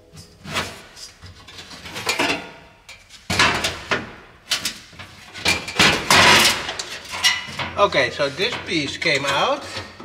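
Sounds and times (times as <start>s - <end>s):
metal knocks and scrapes: 0.0s - 10.0s.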